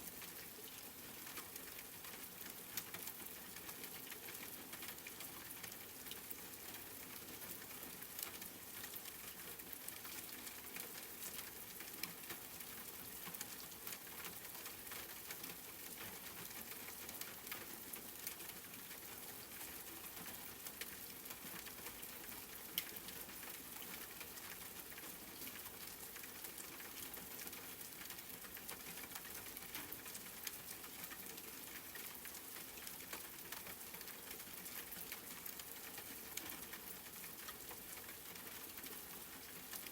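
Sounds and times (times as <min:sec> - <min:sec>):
faint rain: 0:00.0 - 0:39.9.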